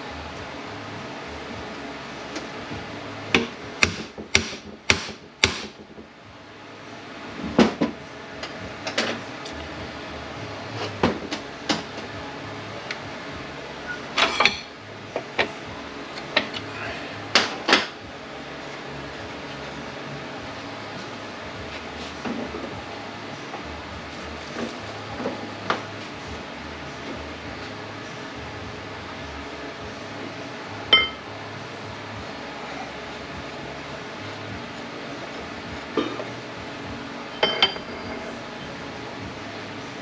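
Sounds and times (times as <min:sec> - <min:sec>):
steady shop hum: 0:00.0 - 0:40.0.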